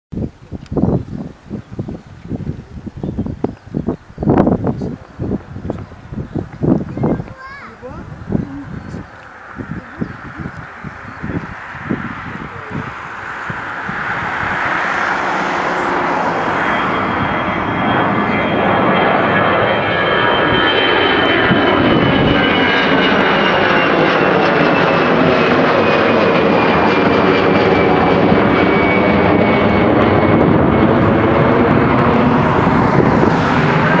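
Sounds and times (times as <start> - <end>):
jet airliner passing overhead: 0.2 - 34.0.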